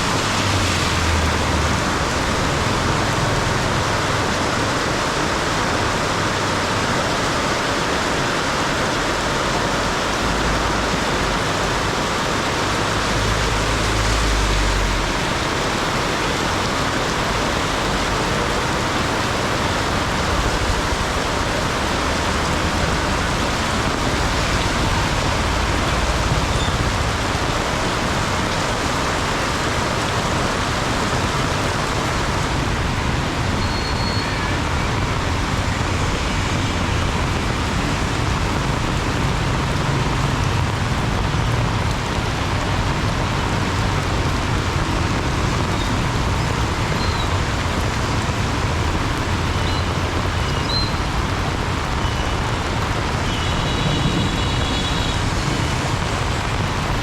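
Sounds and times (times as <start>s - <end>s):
heavy rain pouring: 0.0s - 57.0s
road traffic passing: 0.0s - 57.0s.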